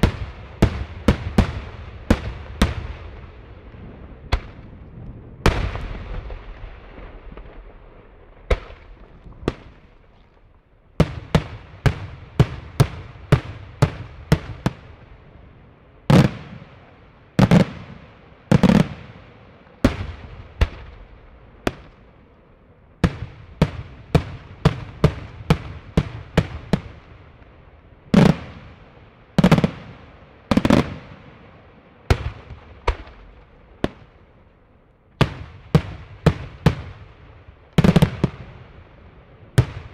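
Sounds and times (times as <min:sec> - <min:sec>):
fireworks bangs echoing: 0:00.0 - 0:15.2, 0:16.1 - 0:22.2, 0:23.0 - 0:34.4, 0:35.2 - 0:39.9
deep fireworks booms: 0:00.0 - 0:39.9.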